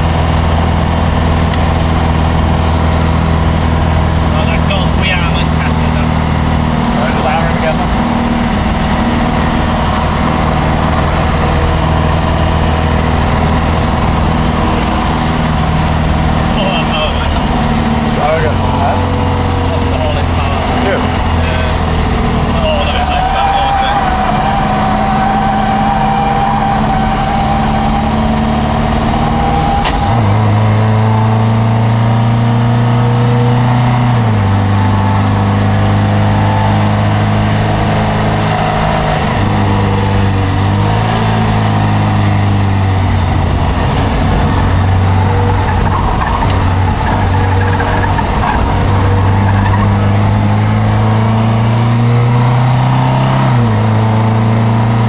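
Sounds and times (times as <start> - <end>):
car engine pulling hard: 0.0 - 55.0.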